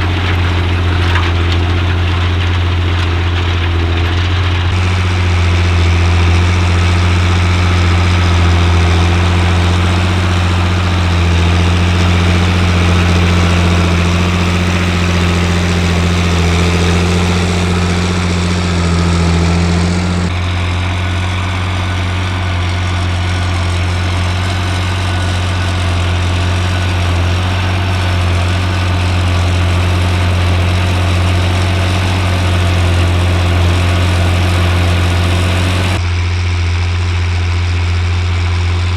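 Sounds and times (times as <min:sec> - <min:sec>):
tractor diesel engine drone: 0:00.0 - 0:38.9.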